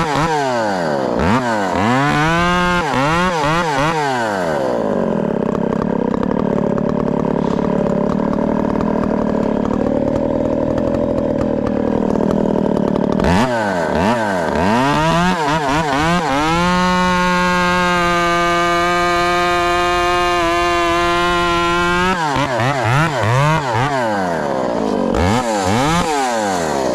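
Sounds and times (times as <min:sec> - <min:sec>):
chainsaw cutting wood: 0:00.0 - 0:26.9.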